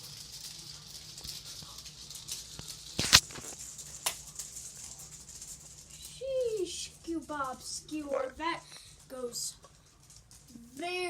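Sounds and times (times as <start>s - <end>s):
tape fluttering on fan blade: 0.0s - 11.0s.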